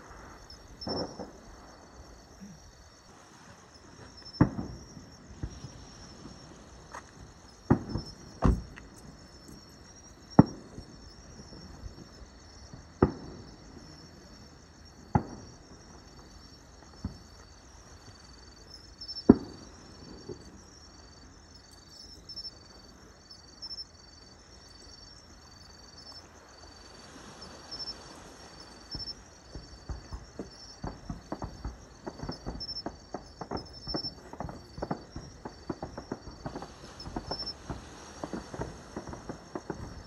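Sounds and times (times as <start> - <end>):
fireworks bangs: 0.0 - 20.8, 26.8 - 40.0
insect chirping: 0.0 - 40.0.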